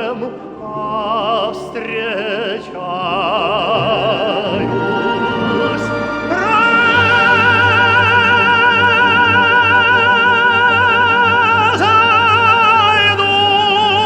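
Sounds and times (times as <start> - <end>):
man singing operatic tenor: 0.0 - 14.0
instrumental accompaniment: 2.3 - 14.0.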